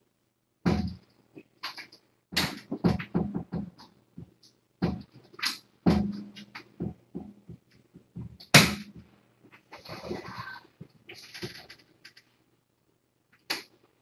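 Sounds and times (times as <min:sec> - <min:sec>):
objects knocking and clattering: 0:00.6 - 0:12.3.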